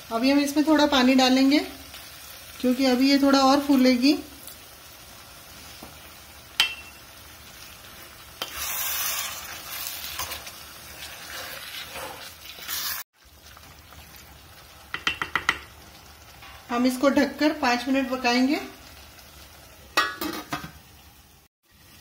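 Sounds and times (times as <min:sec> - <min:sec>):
food sizzling in a pot: 0:00.0 - 0:22.0.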